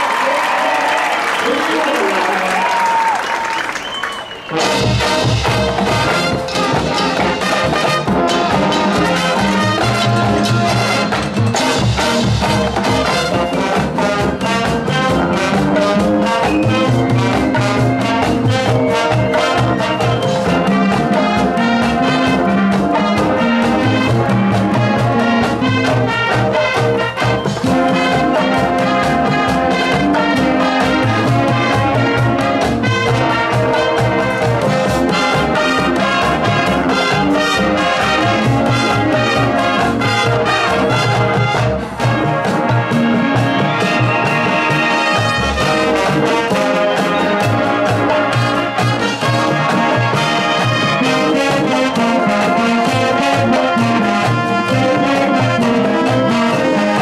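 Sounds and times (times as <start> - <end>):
marching percussion: 1.4 - 57.0
brass playing a tune: 3.4 - 57.0.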